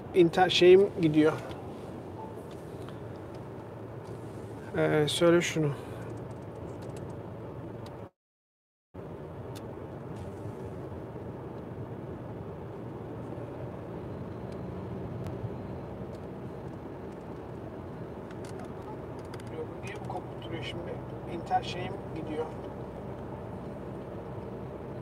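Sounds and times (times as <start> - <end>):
car road and engine noise: 0.0 - 8.2, 9.0 - 25.0.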